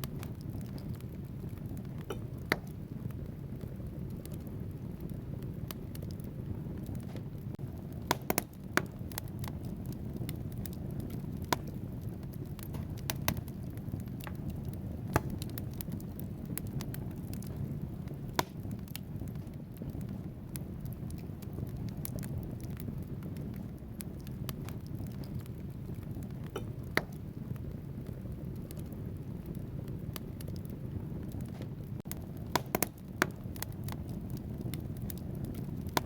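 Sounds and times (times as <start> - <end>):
logs crackling and popping: 0.0 - 36.0
low rumble of flames: 0.0 - 36.0.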